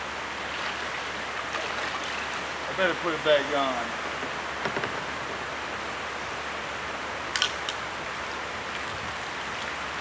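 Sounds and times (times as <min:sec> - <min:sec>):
rushing floodwater: 0:00.0 - 0:10.0.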